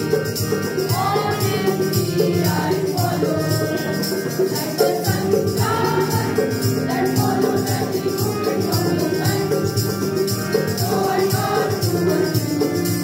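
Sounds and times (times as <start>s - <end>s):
rhythmic percussion beat: 0.0s - 13.0s
students singing together: 0.0s - 13.0s.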